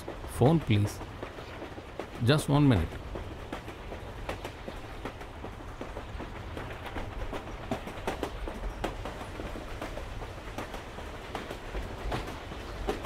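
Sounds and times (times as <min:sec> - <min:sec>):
train carriage low rumble: 0:00.0 - 0:13.0
wheels clicking and knocking: 0:00.0 - 0:13.0.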